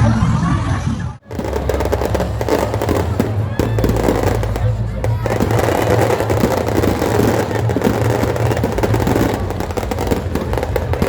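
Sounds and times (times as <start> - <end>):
firecrackers crackling: 1.2 - 11.0.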